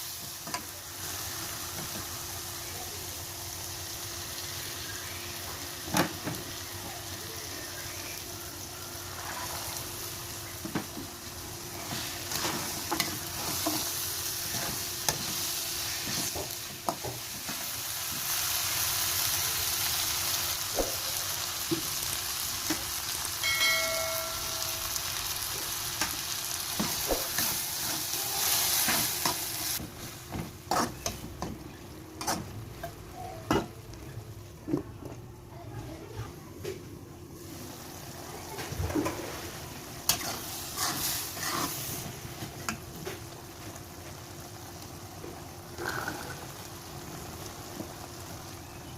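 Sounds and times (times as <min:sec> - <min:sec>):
food sizzling in oil: 0:00.0 - 0:34.1, 0:37.4 - 0:48.9.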